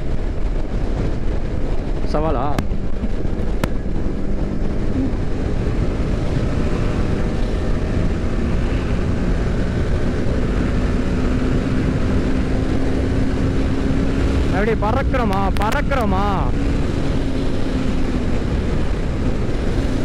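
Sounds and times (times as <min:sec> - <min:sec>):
motorcycle engine running: 0:00.0 - 0:20.0
road noise: 0:00.0 - 0:20.0
wind rush: 0:00.0 - 0:20.0.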